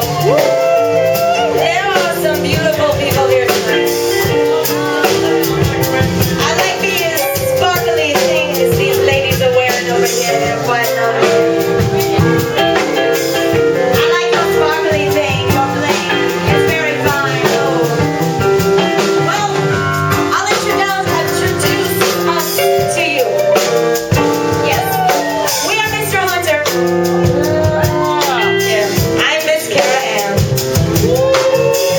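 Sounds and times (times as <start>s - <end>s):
band music: 0.0s - 31.9s
drums keeping a beat: 0.0s - 31.9s.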